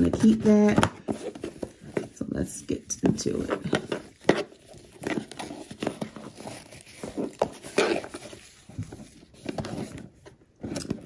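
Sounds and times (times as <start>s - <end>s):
ribbon and box rustling: 0.0s - 11.0s.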